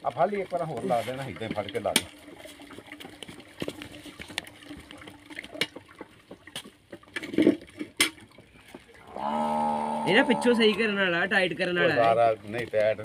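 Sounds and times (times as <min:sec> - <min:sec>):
wet trickling: 0:00.0 - 0:13.0.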